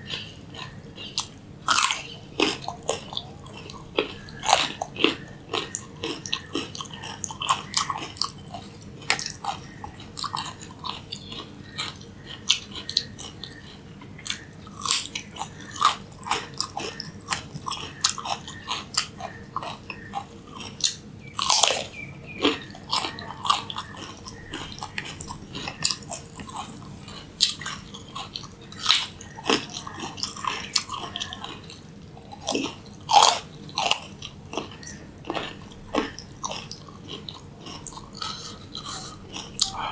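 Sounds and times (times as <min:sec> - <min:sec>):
carrot crunching and chewing: 0:00.0 - 0:39.9.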